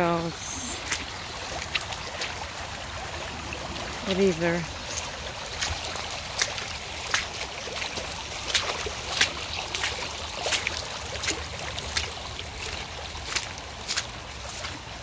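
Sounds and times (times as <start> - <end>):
floodwater flowing with splashes: 0.0 - 15.0.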